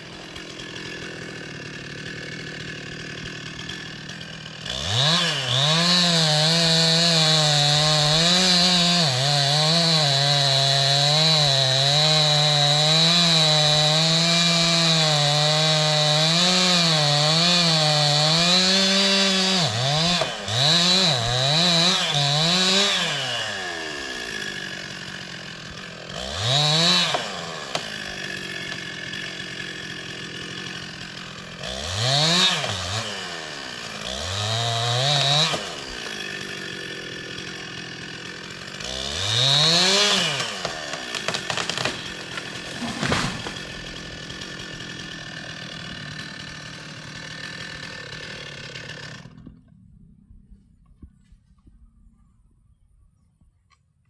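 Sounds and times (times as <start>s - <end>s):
chainsaw cutting wood: 0.0s - 49.8s.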